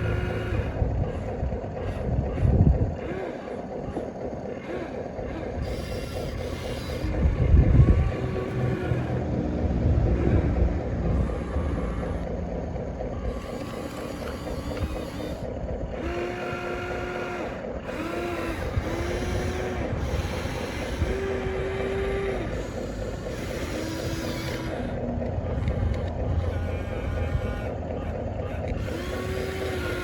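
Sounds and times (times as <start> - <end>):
high steady whine: 0.0 - 30.0
toy electric motors whirring: 0.0 - 30.0.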